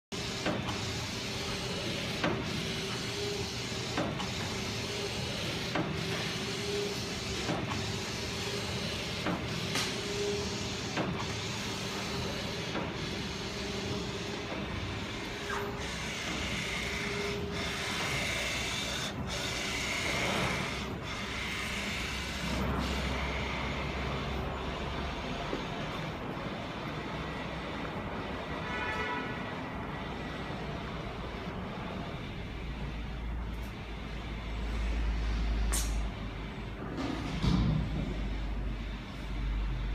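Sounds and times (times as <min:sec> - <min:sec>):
printing machine humming: 0:00.1 - 0:39.9.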